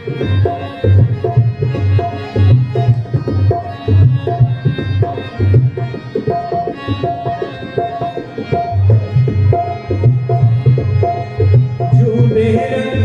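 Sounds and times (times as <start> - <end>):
tabla drumming: 0.0 - 13.0.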